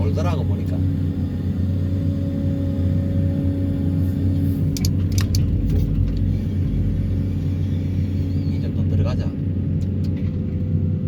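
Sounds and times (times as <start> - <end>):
excavator vibro hammer rumble: 0.1 - 10.6.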